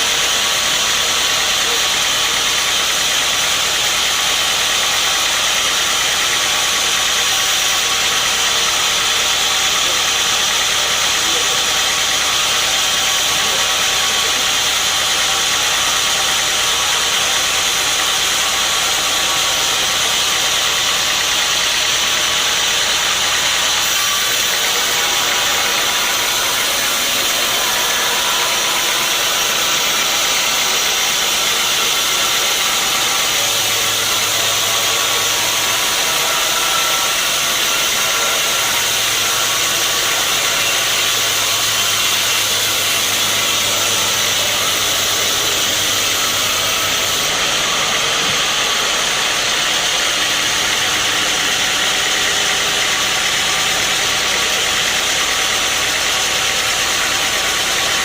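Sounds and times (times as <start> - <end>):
low machine hum: 0.0 - 58.0
sawmill machinery hissing: 0.0 - 58.0.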